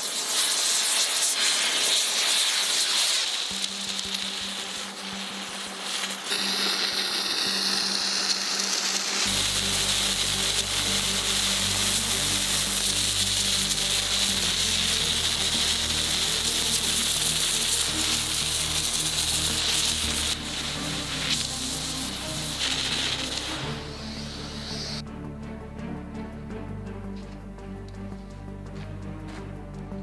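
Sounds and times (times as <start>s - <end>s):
gas torch hissing: 0.0s - 25.0s
background music: 3.0s - 30.0s.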